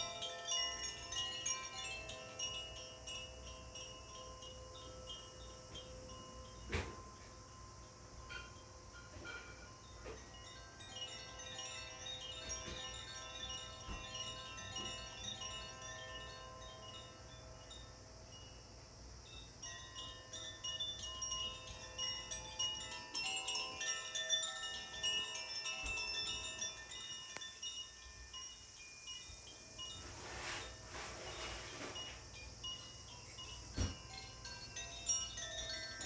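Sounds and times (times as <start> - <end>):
tuned chimes ringing: 0.0 - 18.6, 19.4 - 30.0, 32.4 - 36.0.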